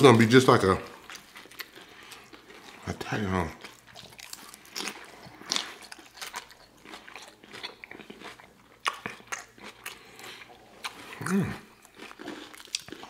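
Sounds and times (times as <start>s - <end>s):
crunchy chewing of salad: 0.9s - 13.0s.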